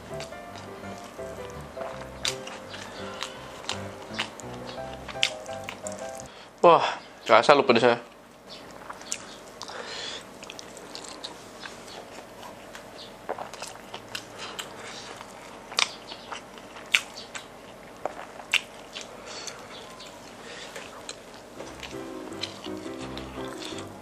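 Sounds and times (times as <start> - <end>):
chewing crispy food: 0.0 - 6.3, 8.1 - 24.0
wet mouth clicks and crunches: 0.1 - 6.2, 8.7 - 9.8, 10.4 - 19.6, 20.8 - 23.9.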